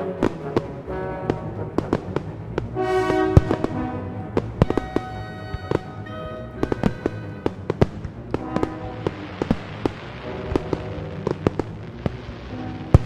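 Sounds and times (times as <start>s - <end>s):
music with held notes: 0.0s - 13.0s
fireworks bangs and pops: 0.2s - 5.9s, 6.6s - 13.0s.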